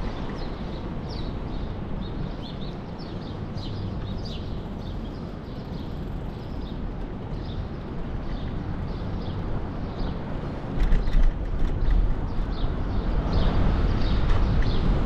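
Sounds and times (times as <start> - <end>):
bicycle rolling noise: 0.0 - 15.0
low rumble of wind: 0.0 - 15.0
small birds chirping: 0.0 - 15.0.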